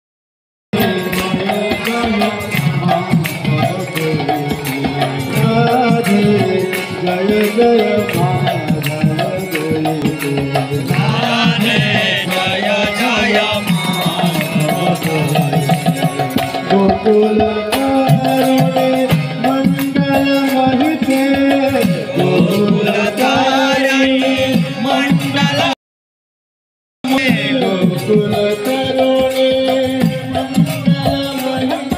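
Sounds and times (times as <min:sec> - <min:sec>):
percussion: 0:00.7 - 0:25.8, 0:27.0 - 0:31.9
hand drum: 0:00.8 - 0:25.8, 0:27.1 - 0:31.9.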